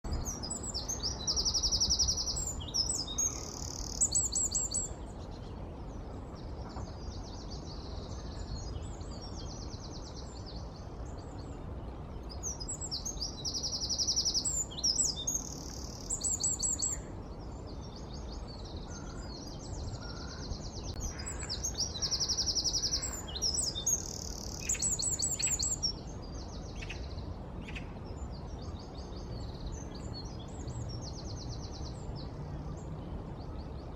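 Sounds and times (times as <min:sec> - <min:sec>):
wren singing trilling song: 0:00.1 - 0:32.4.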